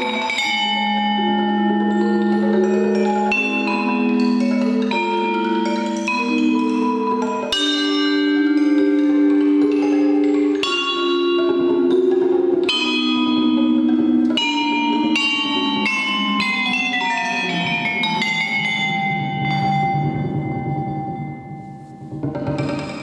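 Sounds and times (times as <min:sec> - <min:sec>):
vibraphone notes ringing: 0:00.0 - 0:23.0.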